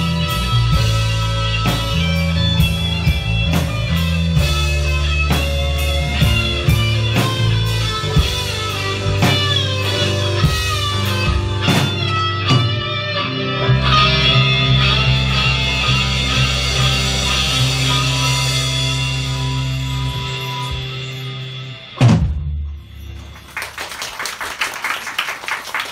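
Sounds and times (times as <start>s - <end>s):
drum kit hits: 0.0s - 20.0s, 22.0s - 23.4s
electric guitar melody: 0.0s - 22.2s.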